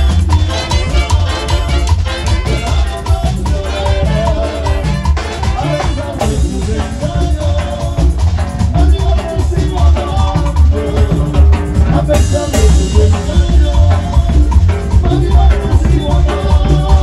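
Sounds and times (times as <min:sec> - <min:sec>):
street band brass playing: 0:00.0 - 0:17.0
strong drum beat: 0:00.0 - 0:17.0.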